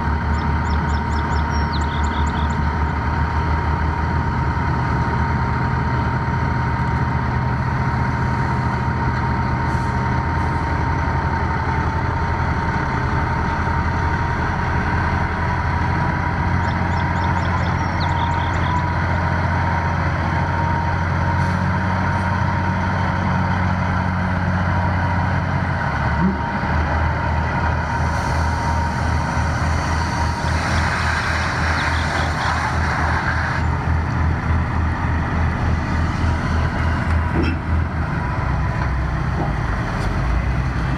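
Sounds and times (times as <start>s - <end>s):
diesel truck engine: 0.0s - 40.9s.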